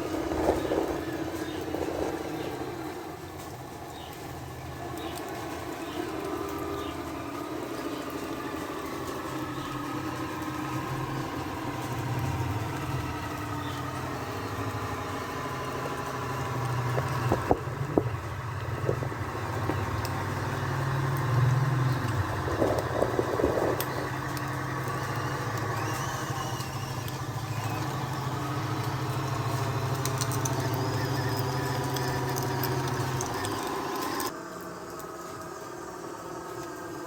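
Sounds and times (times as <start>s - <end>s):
model vehicle motor drone: 0.0s - 37.0s.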